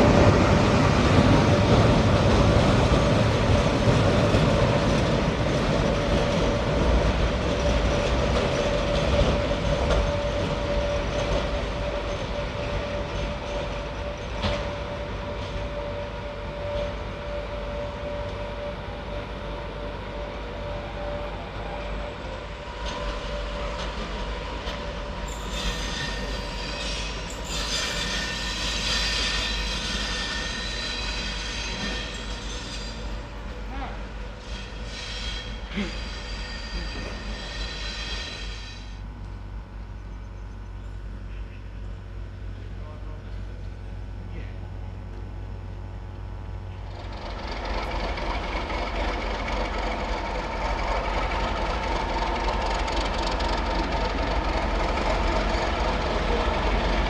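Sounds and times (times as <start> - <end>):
wheels squealing on rails: 0.0 - 39.1, 46.7 - 57.0
train rumbling past: 0.0 - 57.0.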